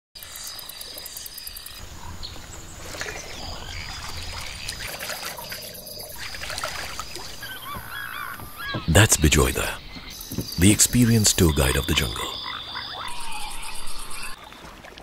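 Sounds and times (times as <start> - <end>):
insect trills: 0.2 - 14.5
frogs calling: 0.2 - 14.6.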